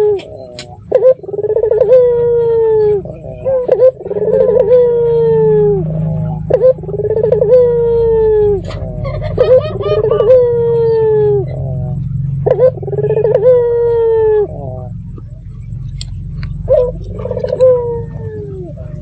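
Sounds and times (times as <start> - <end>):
dove cooing: 0.0 - 19.0
steady low hum: 0.0 - 19.0.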